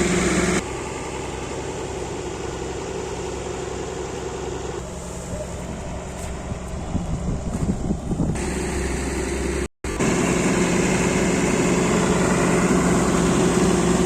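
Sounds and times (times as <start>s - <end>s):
combine harvester engine running: 0.0s - 14.0s.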